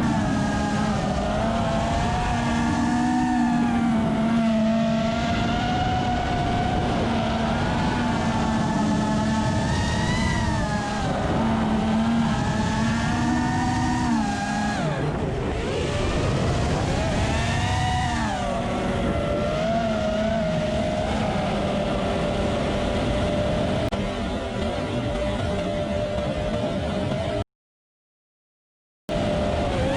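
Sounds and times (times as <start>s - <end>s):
quadcopter motors whining: 0.0s - 27.4s, 29.1s - 29.9s
wind and propeller noise: 0.0s - 27.4s, 29.1s - 29.9s.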